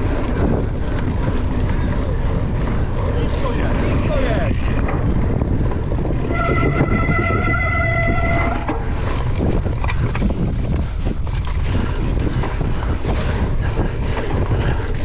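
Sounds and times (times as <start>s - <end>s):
mountain bike rattling: 0.0s - 15.0s
wind buffeting microphone: 0.0s - 15.0s.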